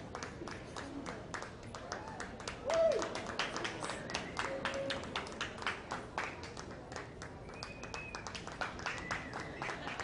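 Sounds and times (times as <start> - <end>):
audience hand clapping: 0.0 - 10.0
low crowd murmur: 0.0 - 10.0.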